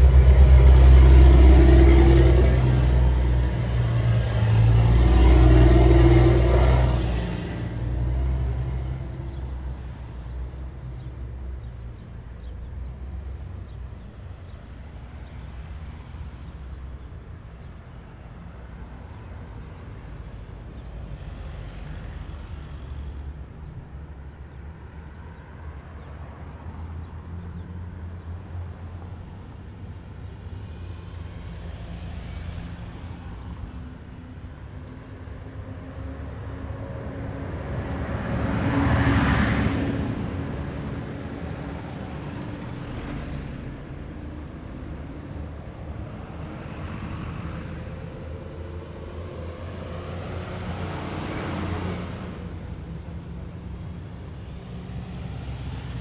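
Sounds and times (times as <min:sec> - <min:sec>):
heavy vehicles rumbling past: 0:00.0 - 0:56.0.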